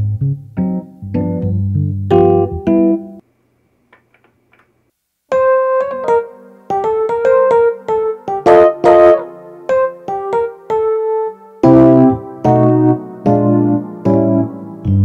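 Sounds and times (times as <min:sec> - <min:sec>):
electric piano chords: 0:00.0 - 0:03.2, 0:05.3 - 0:15.0
electric piano melody: 0:00.0 - 0:03.2, 0:05.3 - 0:15.0.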